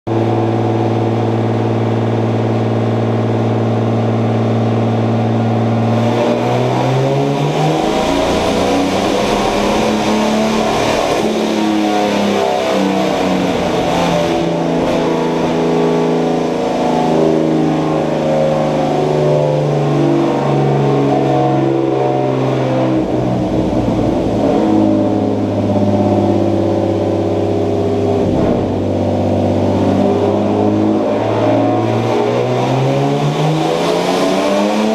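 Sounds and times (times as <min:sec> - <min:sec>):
car engine misfiring and revving: 0:00.1 - 0:34.9.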